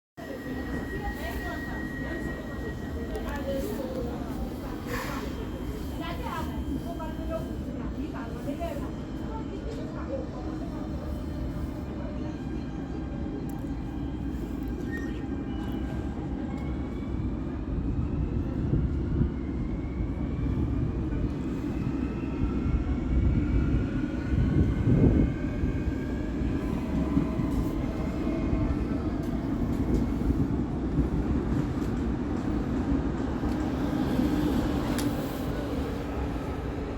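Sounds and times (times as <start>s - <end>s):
electric train rolling rumble: 0.2s - 36.9s.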